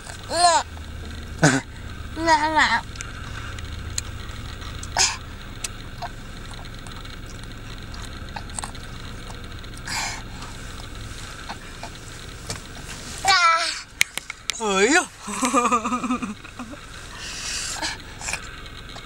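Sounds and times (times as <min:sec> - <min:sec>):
low hum inside a car: 0:00.0 - 0:19.0.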